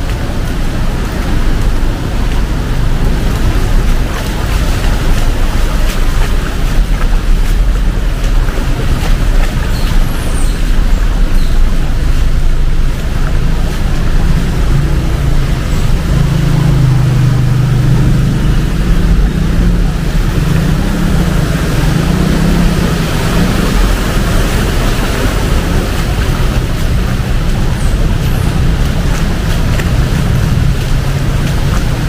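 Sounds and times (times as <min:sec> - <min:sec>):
heavy rain: 0:00.0 - 0:32.0
rushing water: 0:00.0 - 0:32.0
vehicle engine humming: 0:00.0 - 0:32.0.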